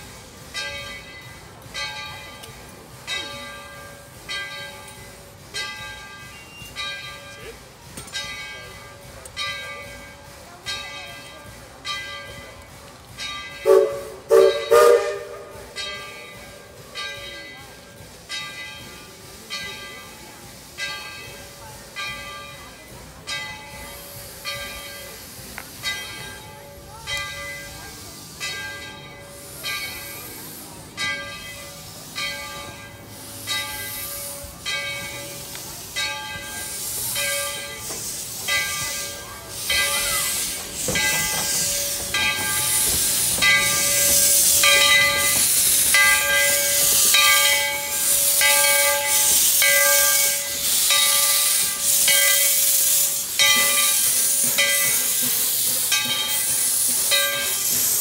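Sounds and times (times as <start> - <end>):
steam hissing: 0.0 - 58.0
locomotive bell ringing: 0.4 - 58.0.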